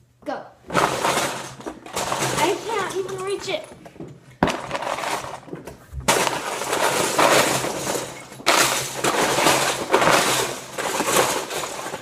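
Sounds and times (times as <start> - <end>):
plastic bricks clattering: 0.7 - 12.0.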